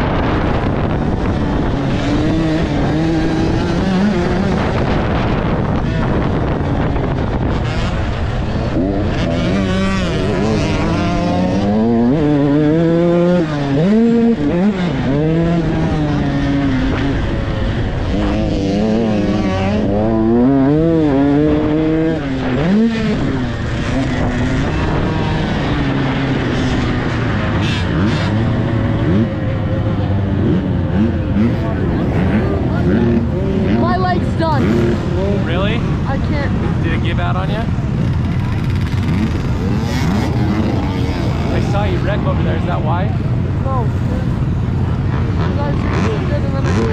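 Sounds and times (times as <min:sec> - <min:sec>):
dirt bike engine revving: 0:00.0 - 0:46.9
wind on microphone: 0:00.0 - 0:46.9.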